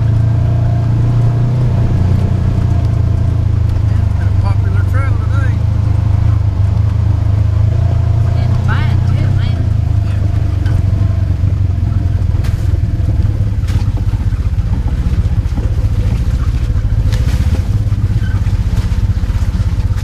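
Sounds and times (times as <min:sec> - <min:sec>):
rattles over rough ground: 0:00.0 - 0:20.0
vehicle engine running: 0:00.0 - 0:20.0.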